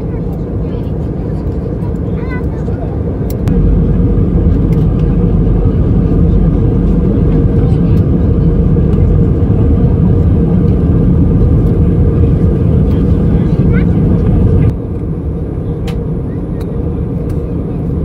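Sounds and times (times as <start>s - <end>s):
airliner cabin noise: 0.0s - 18.0s.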